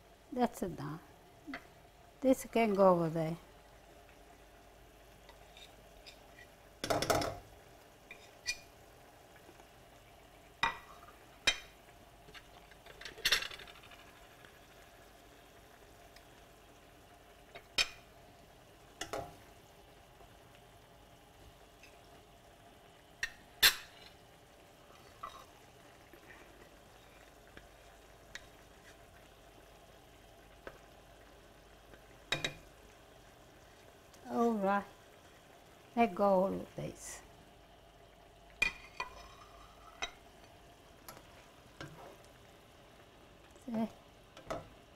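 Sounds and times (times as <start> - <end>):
sauce simmering: 0.0 - 44.9.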